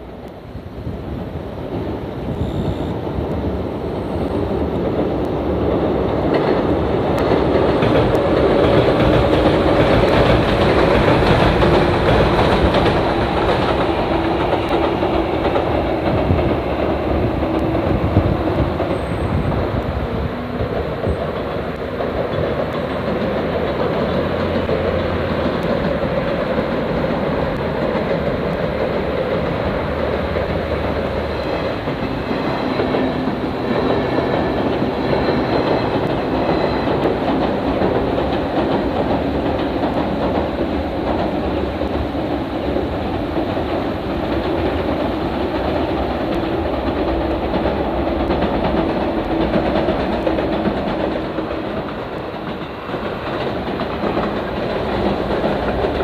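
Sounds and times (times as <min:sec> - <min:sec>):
train rumble: 0:00.0 - 0:56.0
wheels clacking over rails: 0:03.1 - 0:56.0.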